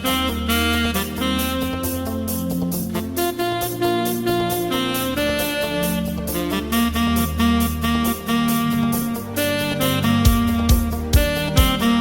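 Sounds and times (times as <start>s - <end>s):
jazz-like instrumental music: 0.0s - 12.0s.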